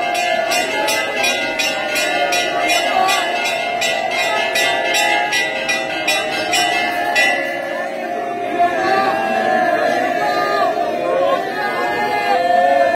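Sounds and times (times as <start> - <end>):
temple bells ringing rapidly: 0.0 - 12.0
voices: 0.0 - 12.9.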